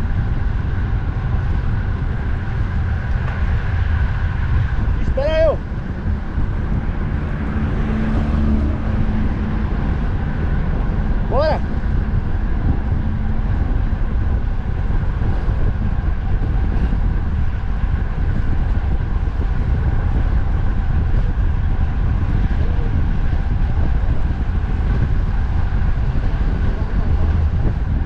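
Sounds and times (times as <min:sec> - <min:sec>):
road traffic: 0:00.0 - 0:28.0
wind buffeting microphone: 0:00.0 - 0:28.0.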